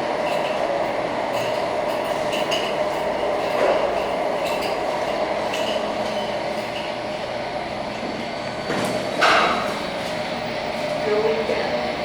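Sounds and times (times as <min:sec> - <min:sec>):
elevator running rumble: 0:00.0 - 0:12.0.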